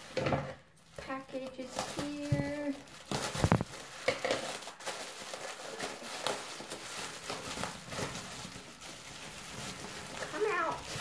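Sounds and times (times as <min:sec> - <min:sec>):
plastic package rustling and crinkling: 0:00.0 - 0:11.0.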